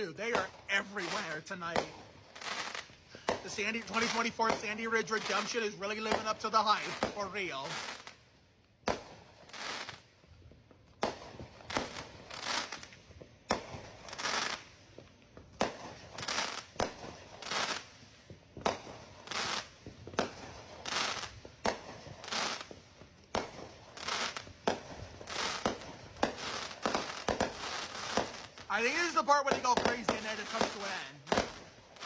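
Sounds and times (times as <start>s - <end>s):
fireworks bursting bangs: 0.0s - 32.0s
fireworks hissing crackle: 0.0s - 32.0s.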